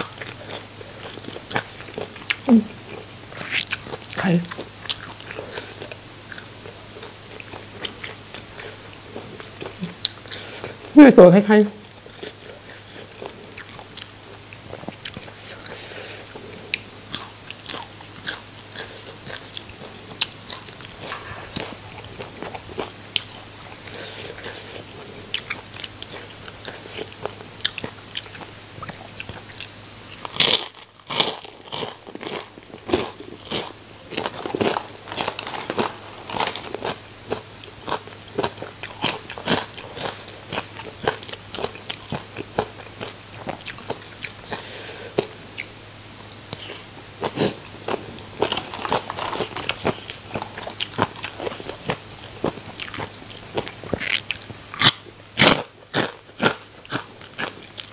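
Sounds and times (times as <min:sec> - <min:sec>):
crunchy chewing: 0:00.0 - 0:10.9, 0:11.8 - 0:57.9.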